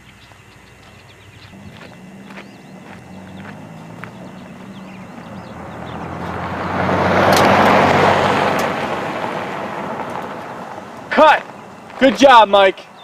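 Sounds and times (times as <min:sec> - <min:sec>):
car driving past: 0:01.3 - 0:12.0.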